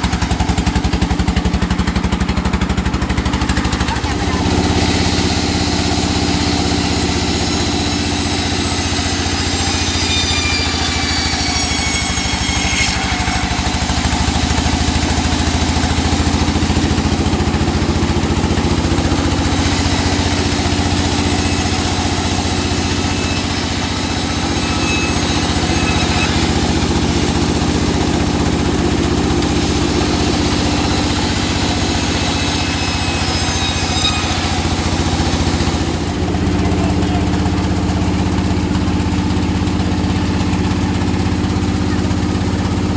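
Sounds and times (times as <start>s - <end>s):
high whine of saw cutting wood: 0.0s - 42.9s
saw engine running: 0.0s - 42.9s.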